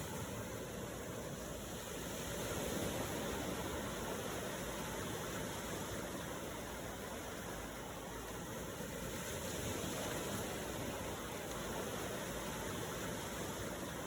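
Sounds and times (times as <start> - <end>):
ocean waves: 0.0 - 14.0.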